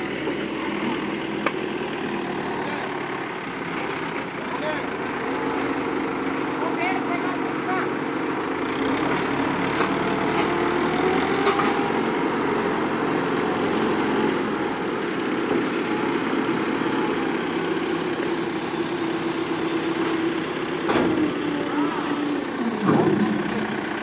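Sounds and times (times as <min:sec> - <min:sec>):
heavy truck engine running: 0:00.0 - 0:24.0.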